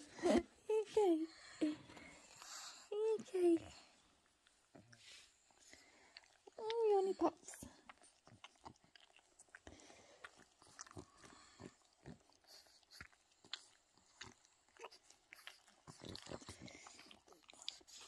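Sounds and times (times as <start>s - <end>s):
dog licking and smacking lips: 3.2s - 18.0s.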